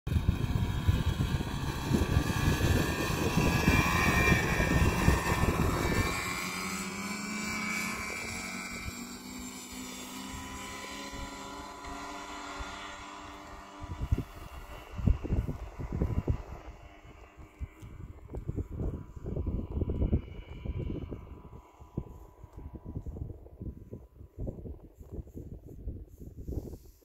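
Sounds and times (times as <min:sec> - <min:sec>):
snowmobile engine running: 0:00.1 - 0:27.0
wind buffeting microphone: 0:00.1 - 0:27.0.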